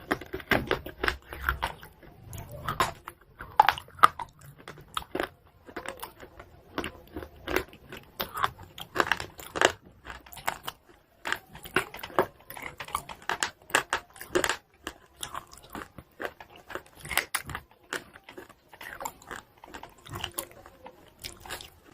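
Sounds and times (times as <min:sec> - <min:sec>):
person chewing crunchy chalk: 0:00.0 - 0:21.9.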